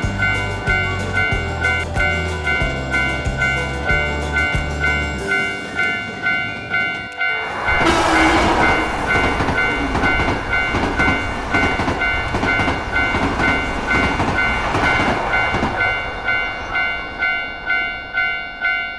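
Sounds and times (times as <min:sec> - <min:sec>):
train wheels rumbling and clattering: 0:00.0 - 0:18.8
crossing warning bell dinging: 0:00.0 - 0:18.9.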